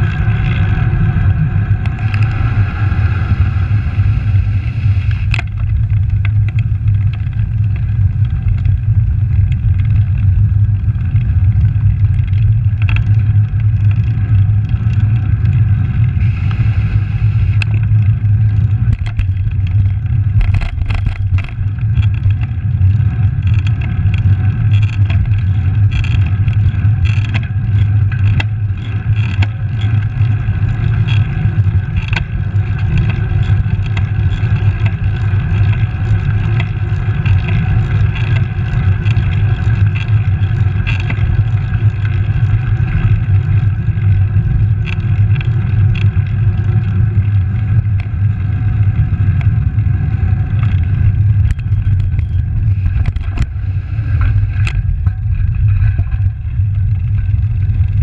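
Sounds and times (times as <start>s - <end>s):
tyre noise on road: 0.0s - 58.0s
wind buffeting microphone: 0.0s - 58.0s
sharp clicks and knocks: 5.1s - 10.3s, 11.1s - 15.6s, 17.4s - 48.2s, 50.6s - 58.0s.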